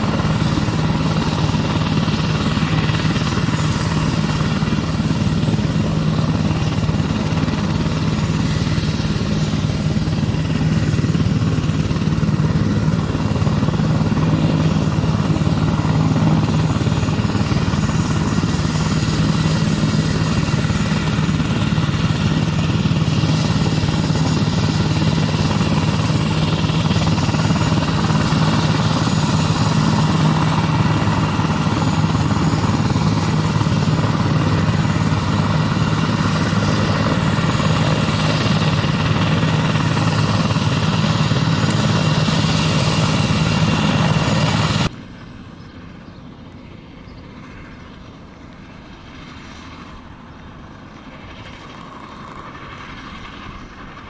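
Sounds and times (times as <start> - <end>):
helicopter engines and rotors: 0.0 - 54.0.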